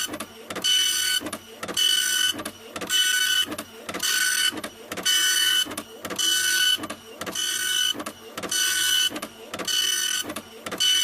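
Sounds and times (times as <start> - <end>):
printer clicking: 0.0 - 11.0.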